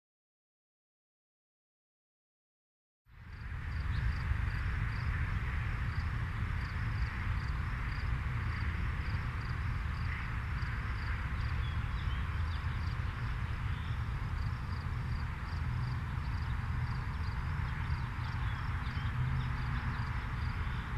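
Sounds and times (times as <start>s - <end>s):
insect chirping: 3.3s - 5.2s, 5.8s - 20.9s.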